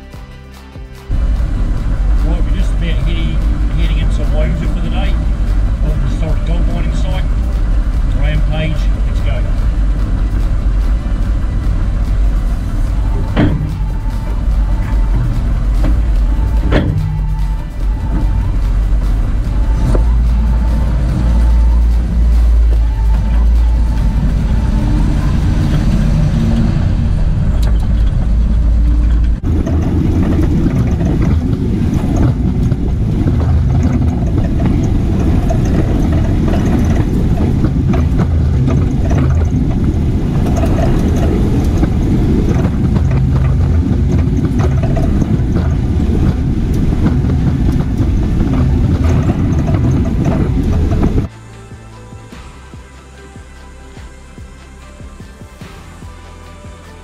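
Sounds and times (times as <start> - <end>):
car engine rumbling: 0.0 - 56.4
tyres on gravel road: 0.0 - 57.0.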